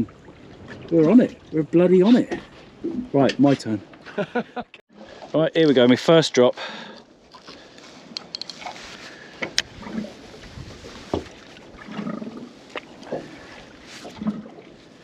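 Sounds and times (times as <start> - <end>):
water lapping against boat hull: 0.0 - 4.2, 6.6 - 15.0.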